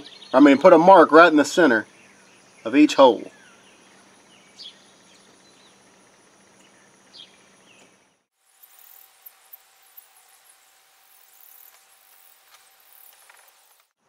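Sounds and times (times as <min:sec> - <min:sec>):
faint chirps: 0:01.6 - 0:13.9.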